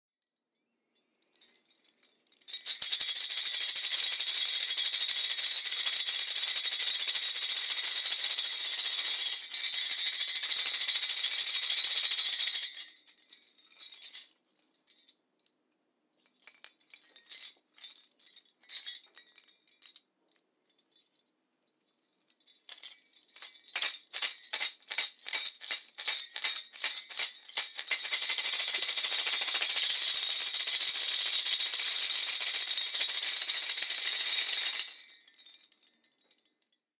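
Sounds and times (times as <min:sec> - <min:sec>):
wooden shakers jingling: 0:01.0 - 0:15.2, 0:16.2 - 0:36.9
wooden shakers clacking: 0:01.0 - 0:15.5, 0:16.2 - 0:36.8.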